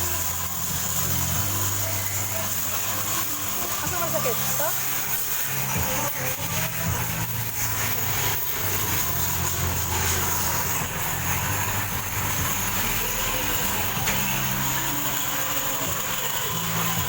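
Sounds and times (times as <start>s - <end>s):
high hiss: 0.0s - 17.0s
machine hum: 0.0s - 17.0s.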